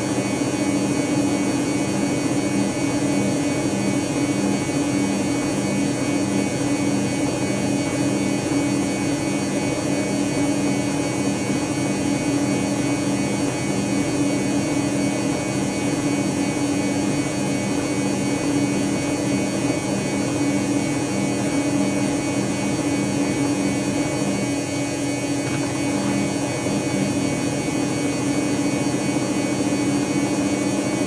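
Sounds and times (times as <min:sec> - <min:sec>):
washing machine spinning: 0:00.0 - 0:31.0.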